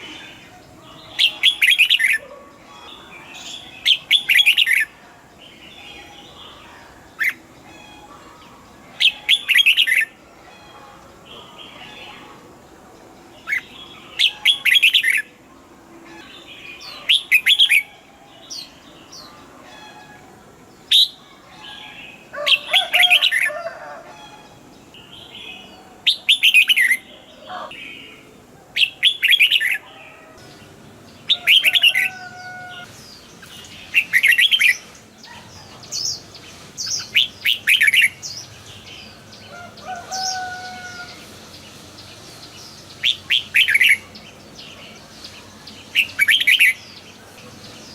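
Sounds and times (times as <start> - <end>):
birds singing warbling phrases: 0.0 - 47.9.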